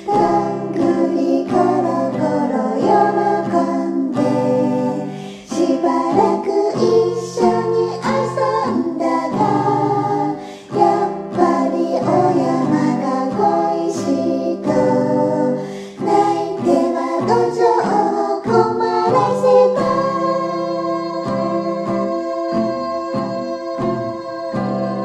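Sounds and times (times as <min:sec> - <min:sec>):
female chorus singing in harmony: 0:00.0 - 0:25.0
guitar accompaniment: 0:00.0 - 0:25.0.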